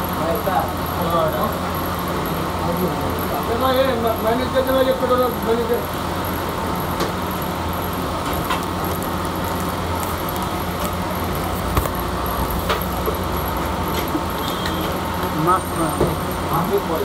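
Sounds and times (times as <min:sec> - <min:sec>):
busy shop hum: 0:00.0 - 0:17.0.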